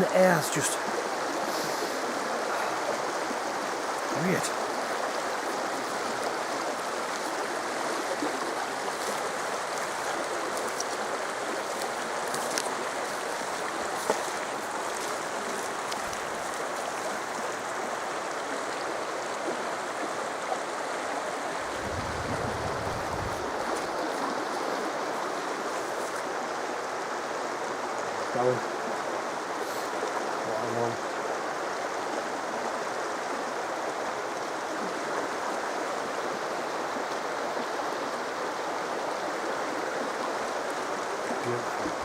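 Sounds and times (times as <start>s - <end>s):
flowing water rushing: 0.0s - 42.0s.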